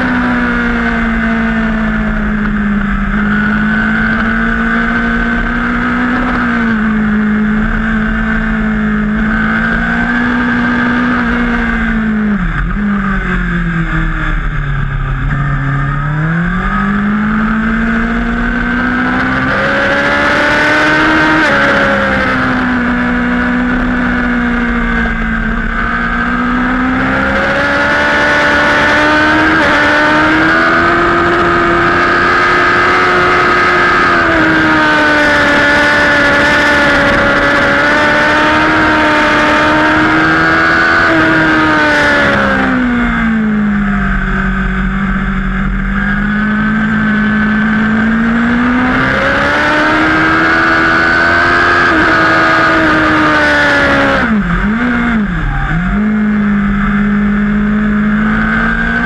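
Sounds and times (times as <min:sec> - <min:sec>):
motorcycle engine racing: 0:00.0 - 0:59.0.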